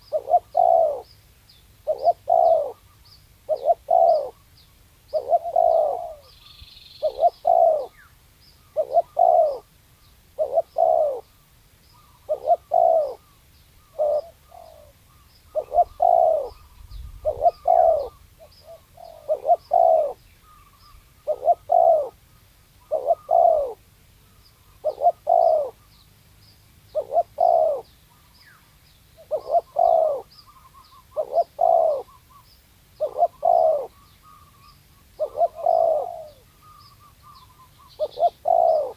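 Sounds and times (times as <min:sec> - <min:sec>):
dove cooing: 0:00.0 - 0:01.1, 0:01.8 - 0:04.4, 0:05.1 - 0:06.3, 0:07.0 - 0:08.1, 0:08.7 - 0:09.7, 0:10.4 - 0:11.4, 0:12.0 - 0:22.2, 0:22.8 - 0:23.8, 0:24.7 - 0:25.9, 0:26.9 - 0:28.3, 0:29.2 - 0:38.9.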